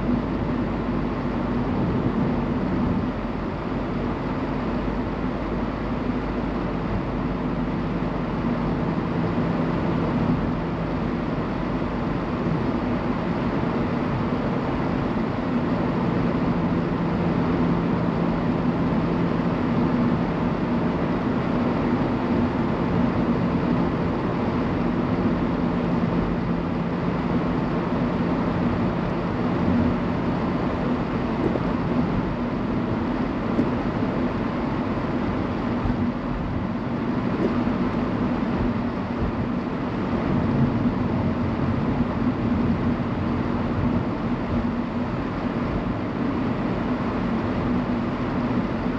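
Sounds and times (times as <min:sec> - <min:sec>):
car engine hum: 0:00.0 - 0:48.9.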